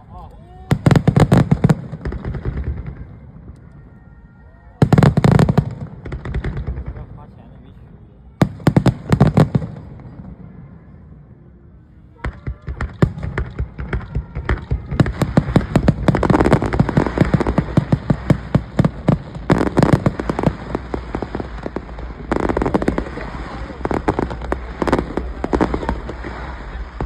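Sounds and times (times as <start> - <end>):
fireworks crackling and banging: 0.0 - 11.2, 11.8 - 27.0.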